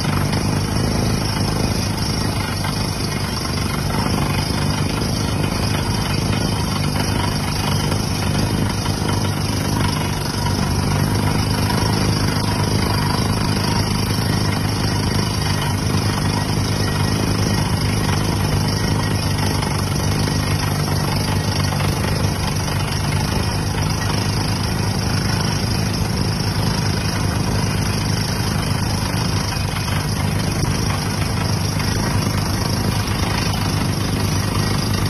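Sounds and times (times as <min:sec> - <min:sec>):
engine drone: 0:00.0 - 0:35.0.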